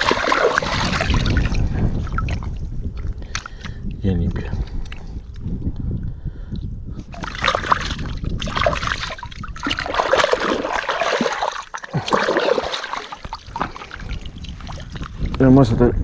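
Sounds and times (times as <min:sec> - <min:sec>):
water splashing and sloshing: 0:00.0 - 0:05.4, 0:07.0 - 0:15.7.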